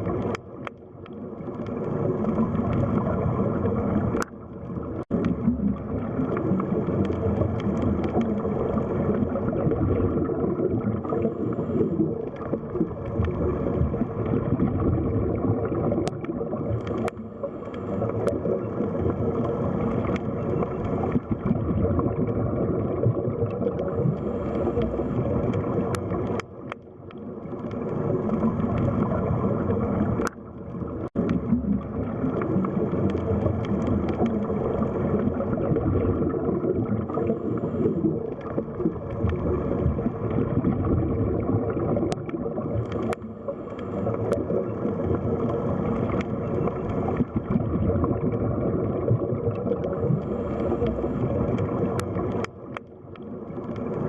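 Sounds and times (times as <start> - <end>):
muffled underwater water gurgling: 0.0 - 54.0.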